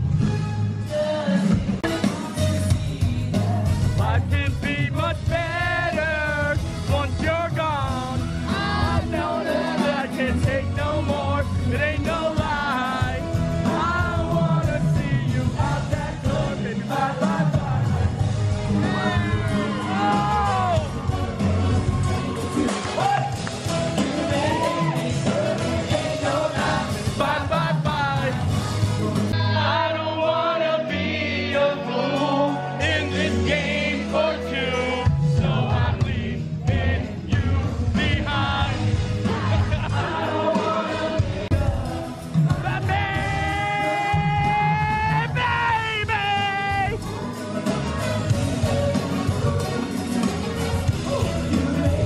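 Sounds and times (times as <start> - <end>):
live pop-rock band music: 0.0 - 52.0
lead vocal singing: 0.2 - 52.0.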